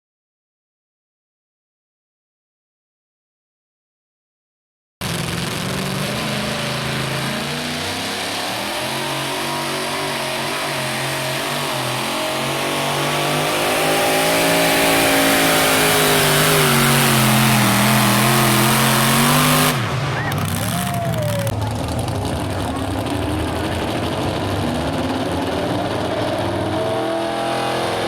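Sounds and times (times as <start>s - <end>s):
engine running at high revs: 5.0s - 28.0s.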